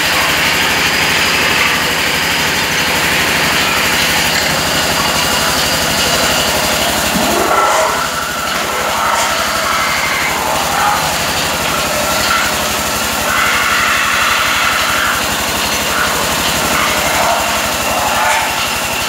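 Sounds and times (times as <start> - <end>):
lathe running with low thrum: 0.0 - 19.0.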